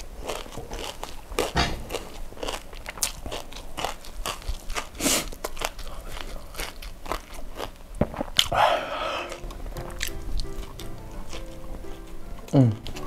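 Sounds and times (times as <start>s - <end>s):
chewing crispy fried chicken: 0.0s - 13.0s.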